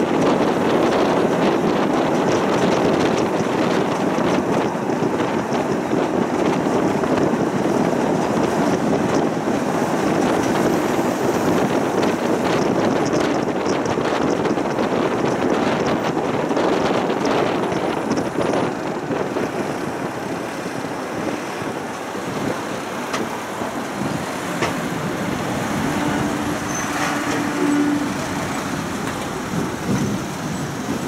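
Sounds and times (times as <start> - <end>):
tram running: 0.0 - 31.0
wind on microphone: 0.0 - 31.0.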